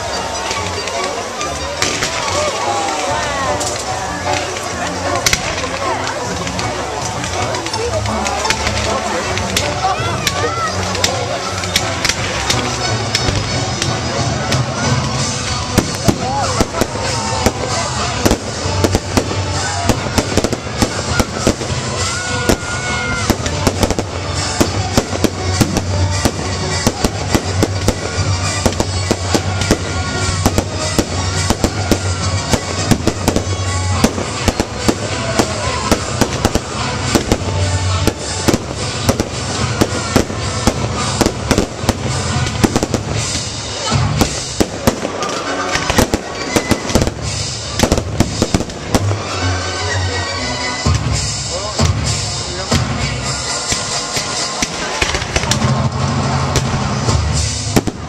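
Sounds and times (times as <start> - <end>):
fireworks crackling and banging: 0.0 - 58.0.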